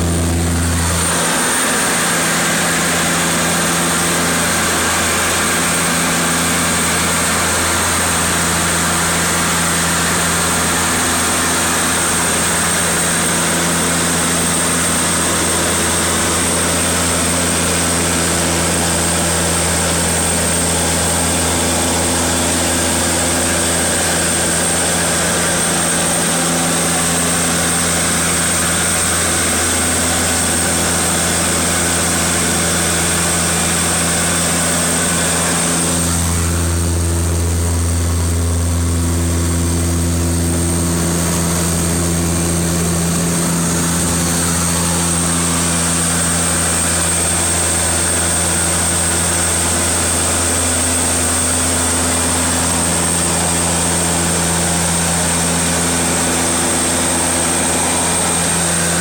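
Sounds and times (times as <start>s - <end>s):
aircraft engines droning in cabin: 0.0s - 59.0s
high steady whine: 0.0s - 59.0s.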